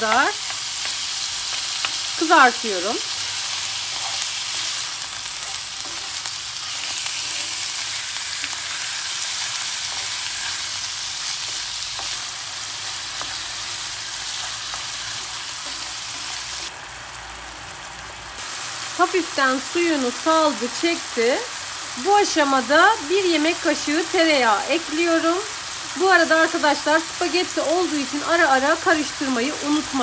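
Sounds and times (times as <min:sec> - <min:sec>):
chicken sizzling in a pan: 0:00.0 - 0:30.0.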